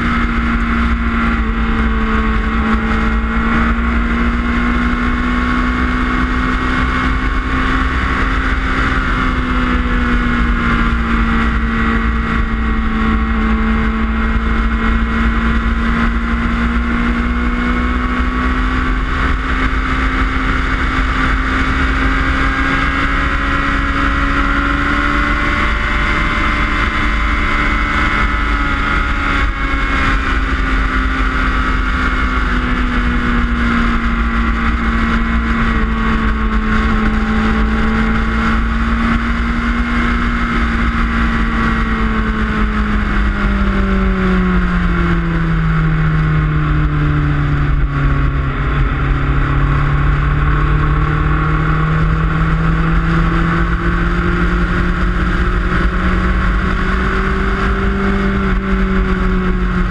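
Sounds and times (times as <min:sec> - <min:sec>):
motorcycle engine cruising: 0:00.0 - 0:59.9
wind rumble on camera: 0:00.0 - 0:59.9.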